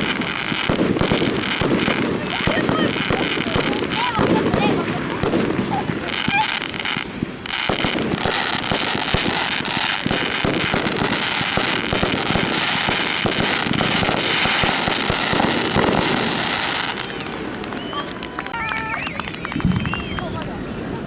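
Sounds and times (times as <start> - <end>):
fireworks exploding: 0.0 - 21.0.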